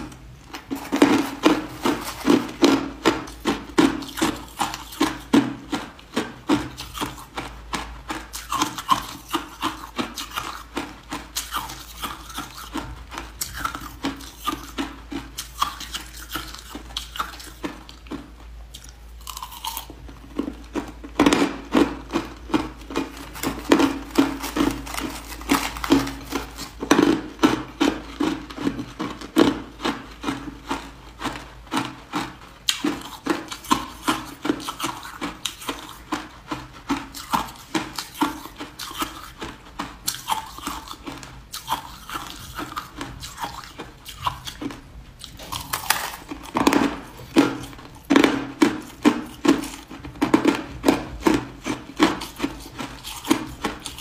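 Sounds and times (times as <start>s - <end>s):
person chewing ice crunches: 0.0s - 54.0s.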